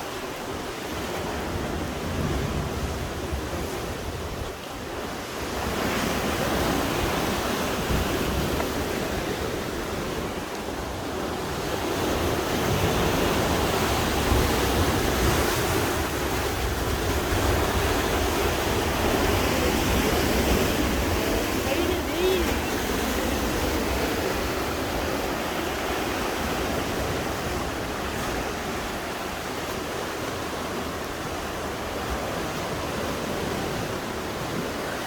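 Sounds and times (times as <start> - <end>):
sea waves washing on shore: 0.0 - 35.0.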